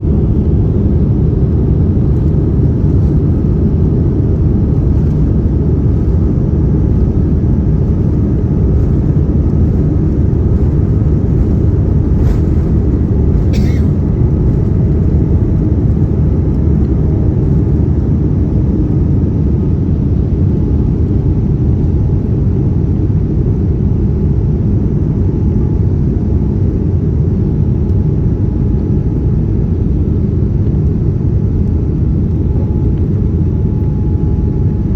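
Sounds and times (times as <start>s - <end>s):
airliner cabin engine rumble: 0.0s - 34.9s.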